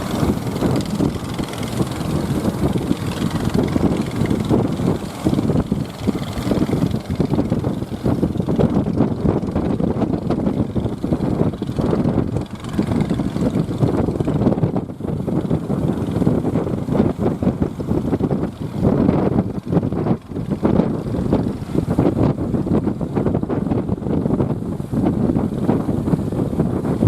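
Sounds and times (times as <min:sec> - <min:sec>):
boat engines running: 0:00.0 - 0:27.0
wind buffeting microphone: 0:00.0 - 0:27.0.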